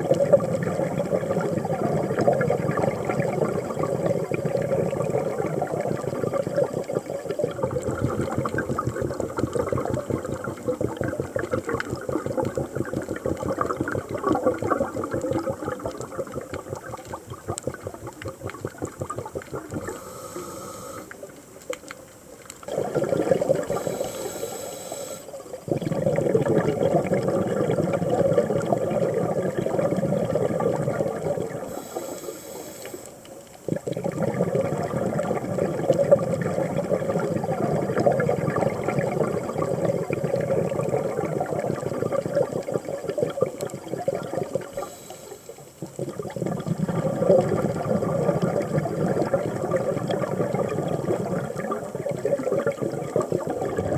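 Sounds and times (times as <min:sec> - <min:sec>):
underwater bubbling of exhaled air: 0:00.0 - 0:53.9.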